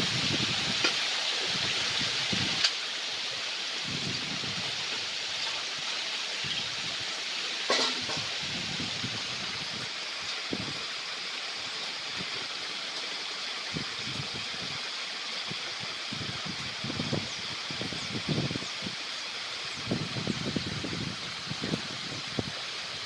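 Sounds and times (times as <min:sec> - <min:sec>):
water gushing from pipe: 0:00.0 - 0:23.0.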